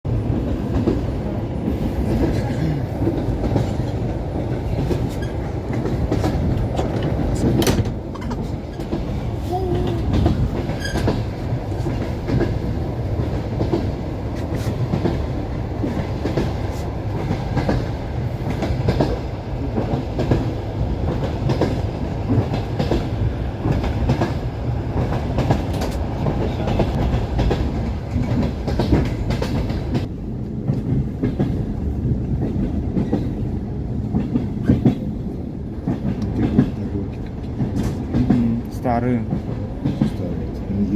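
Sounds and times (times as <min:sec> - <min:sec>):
train wheels knocking on rail joints: 0:00.3 - 0:38.5, 0:39.2 - 0:40.2.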